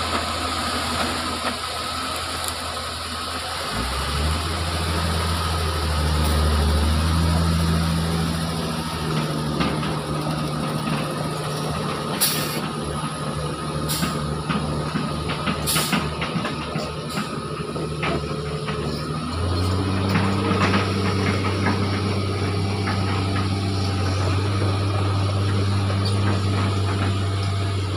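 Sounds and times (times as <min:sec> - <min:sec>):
diesel truck engine droning: 0:00.0 - 0:27.9
stronger low engine drone: 0:00.0 - 0:27.9.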